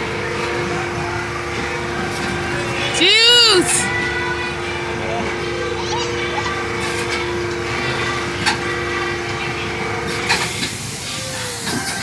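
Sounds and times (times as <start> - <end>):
two-note ride hum: 0.0 - 11.3.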